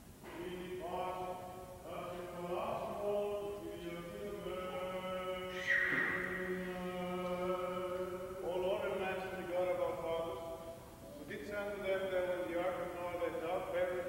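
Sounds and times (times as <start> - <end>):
man chanting: 0.2 - 14.0.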